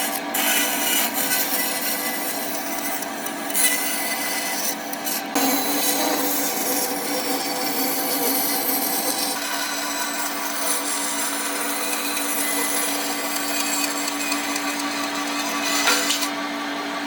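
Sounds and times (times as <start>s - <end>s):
electric power tool on wood: 0.0s - 17.0s.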